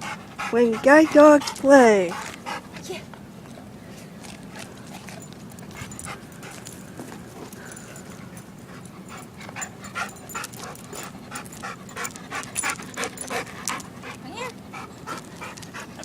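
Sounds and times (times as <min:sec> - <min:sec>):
dog panting: 0:00.0 - 0:03.1, 0:04.5 - 0:16.0.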